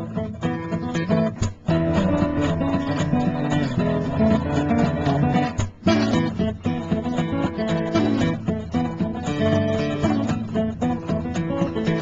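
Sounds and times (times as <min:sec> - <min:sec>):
acoustic guitar strummed and plucked: 0:00.0 - 0:12.0.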